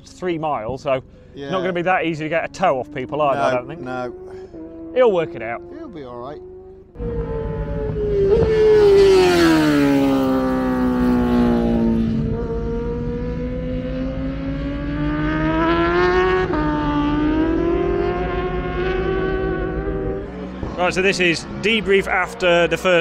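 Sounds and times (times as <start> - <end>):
superbike engine revving: 1.0 - 23.0.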